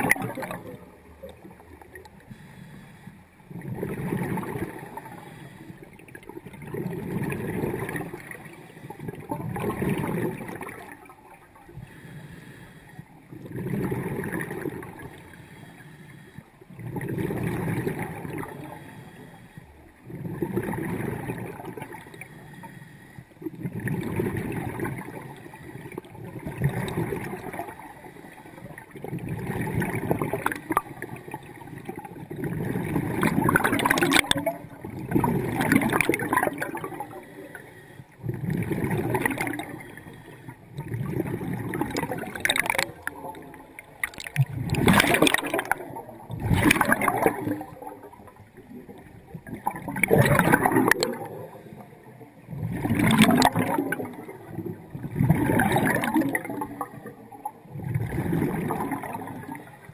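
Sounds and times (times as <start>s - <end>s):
underwater regulator bubbles gurgling: 0.0s - 59.9s.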